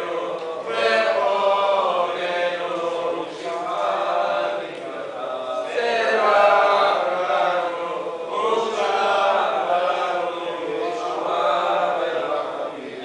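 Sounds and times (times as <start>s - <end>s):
voices chanting prayers: 0.0s - 13.0s.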